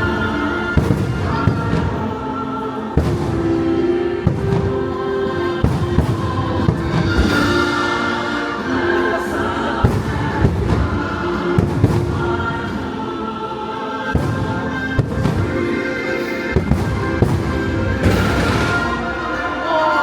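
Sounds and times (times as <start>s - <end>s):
fireworks bangs: 0.0s - 20.0s
orchestra and choir music: 0.0s - 20.0s.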